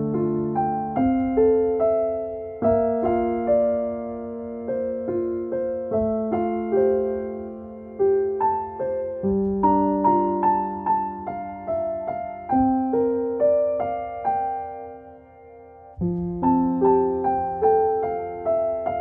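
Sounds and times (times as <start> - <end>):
calm piano music: 0.0 - 19.0.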